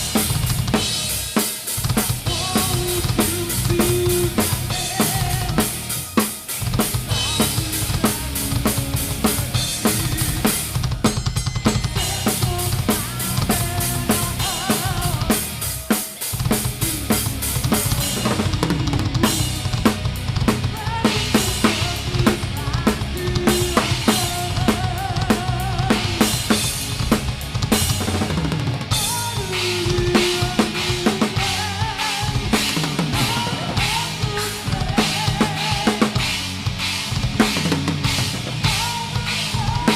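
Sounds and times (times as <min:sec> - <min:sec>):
drum kit hits: 0:00.0 - 0:39.9
live band music: 0:00.0 - 0:39.9.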